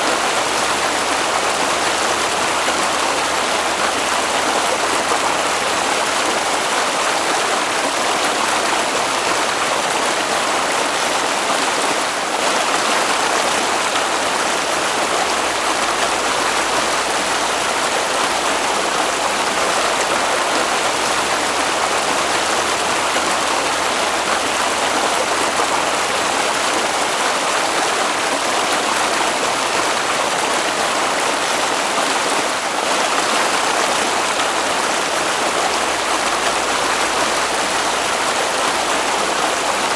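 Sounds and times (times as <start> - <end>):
water flowing in a stream: 0.0 - 39.9.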